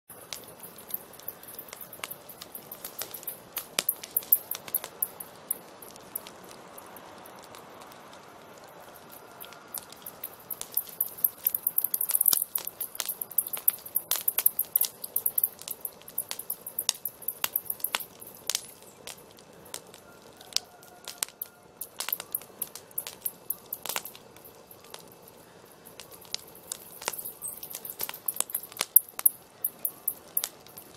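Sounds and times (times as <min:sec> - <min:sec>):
campfire crackling: 0:00.1 - 0:30.9.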